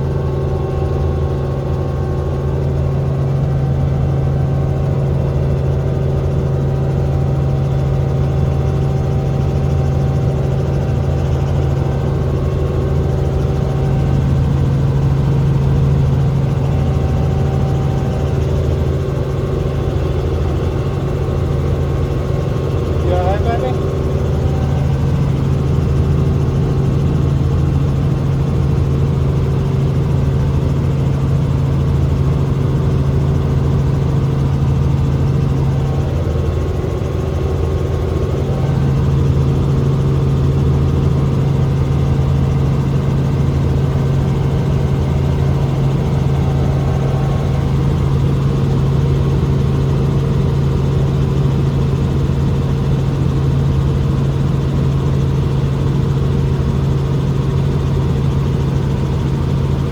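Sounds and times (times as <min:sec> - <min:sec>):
helicopter drone inside cabin: 0:00.0 - 0:59.9.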